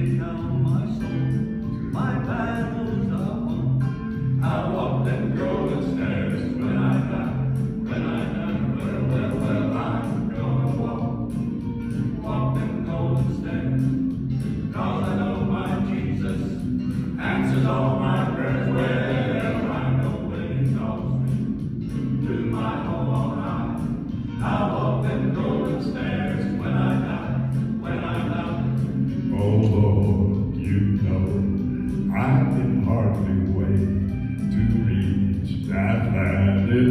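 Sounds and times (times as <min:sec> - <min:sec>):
instrumental bass line: 0:00.0 - 0:36.9
male vocal quartet singing: 0:00.0 - 0:36.9.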